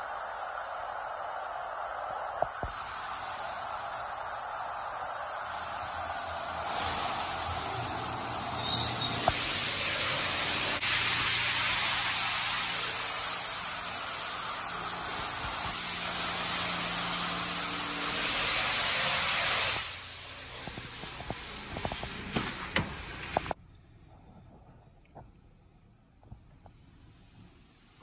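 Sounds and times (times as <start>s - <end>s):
high-pressure water spraying: 0.0s - 23.6s
water splashing and dripping: 0.0s - 23.6s.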